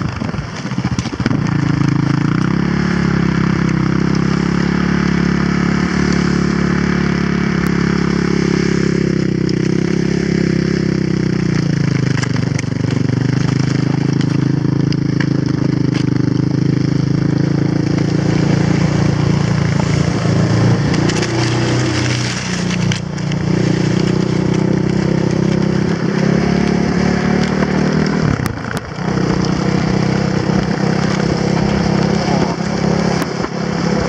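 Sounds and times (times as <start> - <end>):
quad bike engine running: 0.0 - 34.0.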